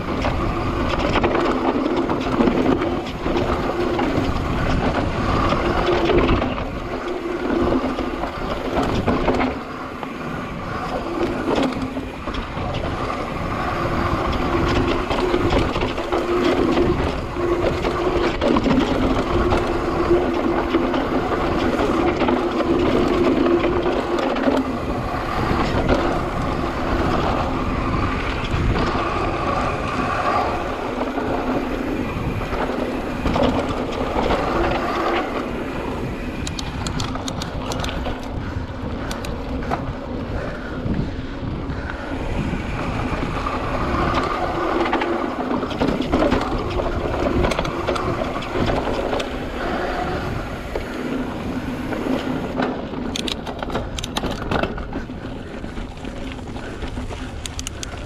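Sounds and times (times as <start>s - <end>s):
bike rattling: 0.0s - 58.0s
bike tyres on dirt: 0.0s - 58.0s.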